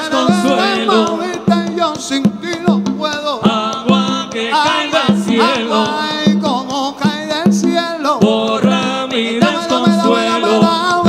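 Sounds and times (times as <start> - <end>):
congas: 0.0 - 11.0
salsa band playing: 0.0 - 11.0.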